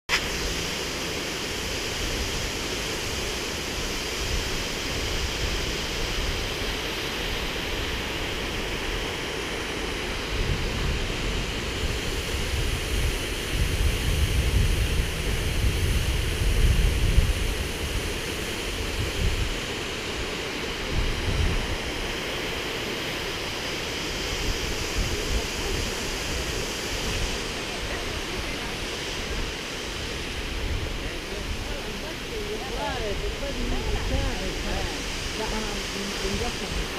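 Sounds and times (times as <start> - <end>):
waterfall rushing: 0.1 - 36.9
wind buffeting microphone: 1.6 - 22.7, 23.7 - 36.9.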